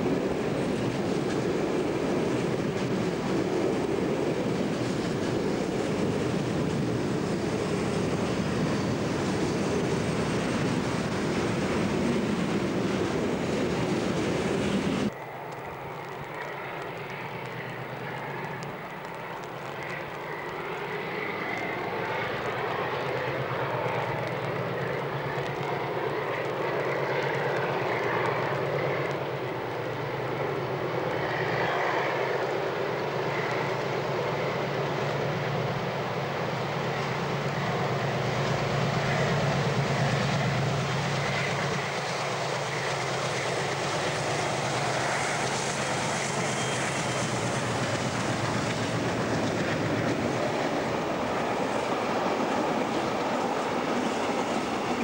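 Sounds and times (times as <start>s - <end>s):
diesel locomotive engines droning: 0.0s - 55.0s.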